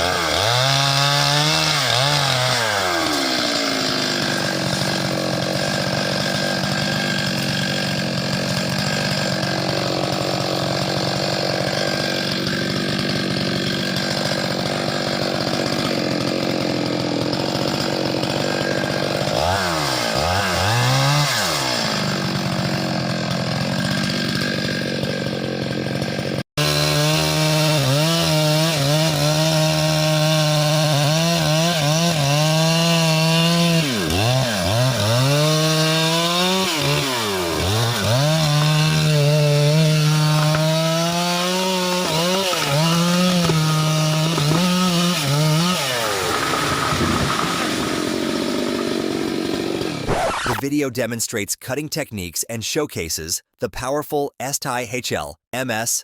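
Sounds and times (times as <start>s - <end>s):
chainsaw engine running: 0.0s - 50.7s.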